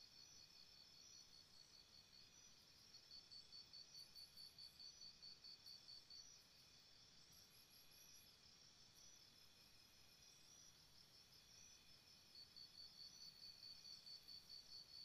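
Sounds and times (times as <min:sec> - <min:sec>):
high pulsing insect chirp: 0:00.0 - 0:15.0.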